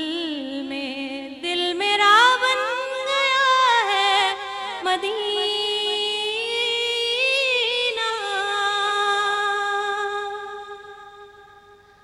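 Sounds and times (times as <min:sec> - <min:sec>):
woman singing unaccompanied: 0:00.0 - 0:11.4.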